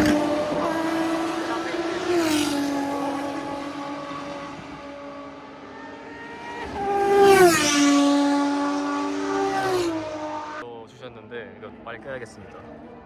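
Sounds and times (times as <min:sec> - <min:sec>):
race cars passing at speed: 0:00.0 - 0:10.7.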